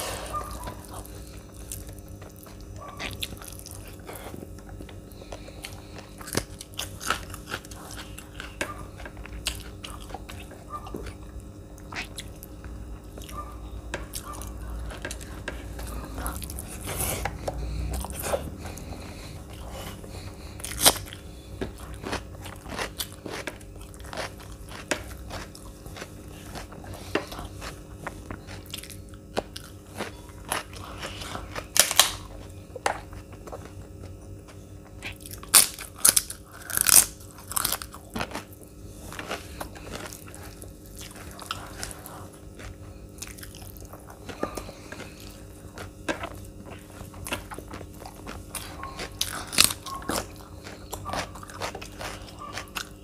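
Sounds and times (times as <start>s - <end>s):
crunchy bites: 0.0s - 53.0s
faint steady hum: 0.0s - 53.0s
person chewing food: 0.0s - 53.0s.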